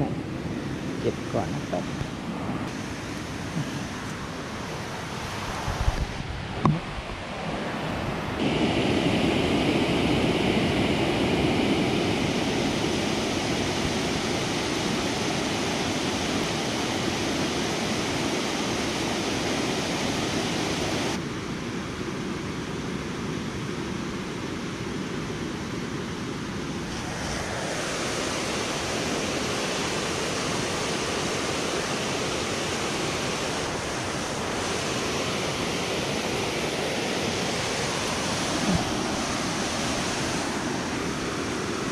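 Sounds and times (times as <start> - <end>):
rushing river: 0.0 - 41.9.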